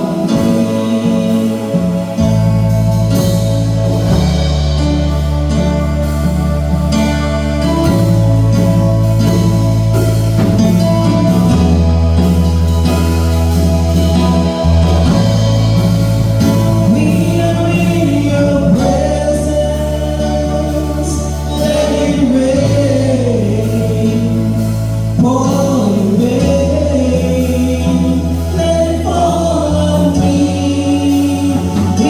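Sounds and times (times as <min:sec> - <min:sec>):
gospel singing: 0:00.0 - 0:32.0
instrumental accompaniment with bass notes: 0:00.0 - 0:32.0.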